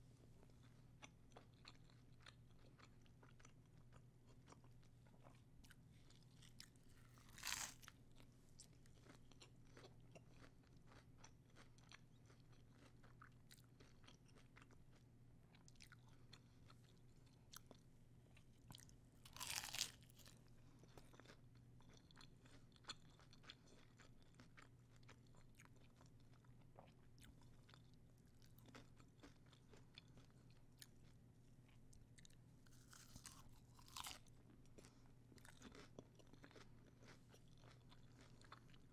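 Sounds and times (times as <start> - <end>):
chewing crunchy taco shells: 0.2 - 38.9.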